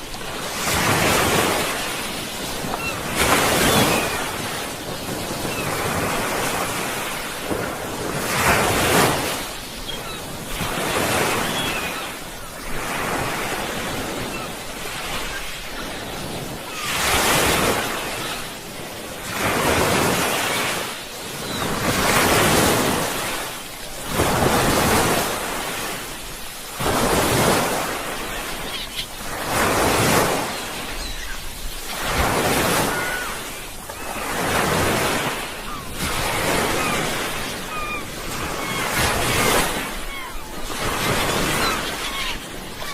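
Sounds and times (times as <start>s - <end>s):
sea waves breaking: 0.0s - 42.9s.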